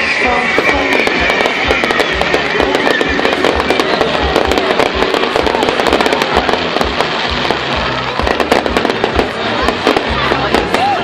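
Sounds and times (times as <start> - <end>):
fireworks crackling bangs: 0.0 - 11.0
deep booming thumps: 0.6 - 11.0.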